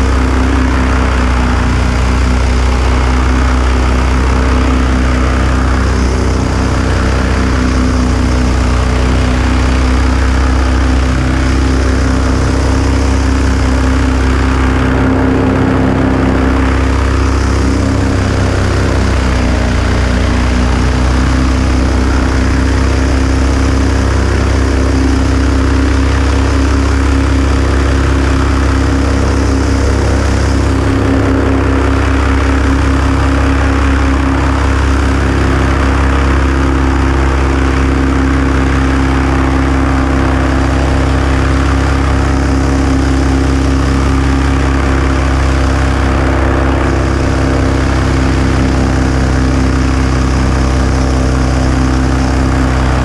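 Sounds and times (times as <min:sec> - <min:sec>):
aircraft piston engine running: 0:00.0 - 0:53.0.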